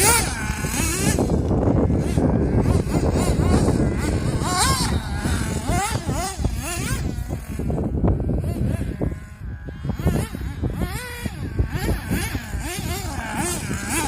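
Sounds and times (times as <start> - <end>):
small nitro engine revving: 0.0 - 14.0.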